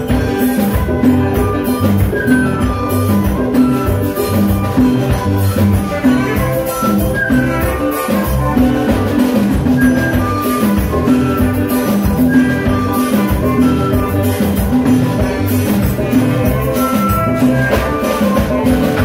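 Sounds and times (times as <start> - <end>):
flute: 0.0 - 19.0
live band playing upbeat tune: 0.0 - 19.0
saxophone: 0.0 - 19.0.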